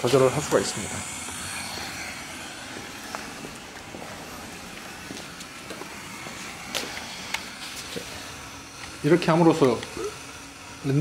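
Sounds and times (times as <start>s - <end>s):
workshop background hiss: 0.0s - 11.0s.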